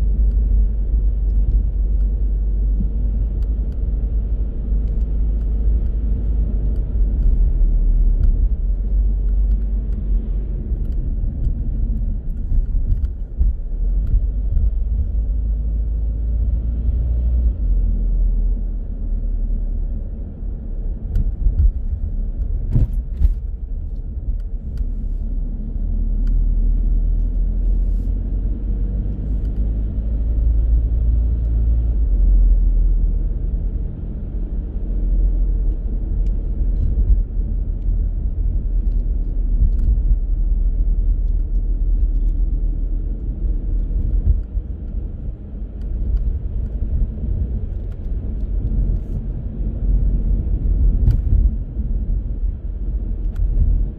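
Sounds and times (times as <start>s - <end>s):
car engine and road noise: 0.0s - 53.9s.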